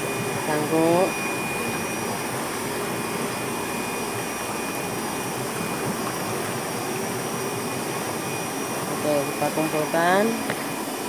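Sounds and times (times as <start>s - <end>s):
faint high steady tones: 0.0s - 11.0s
machine whirring: 0.0s - 11.0s.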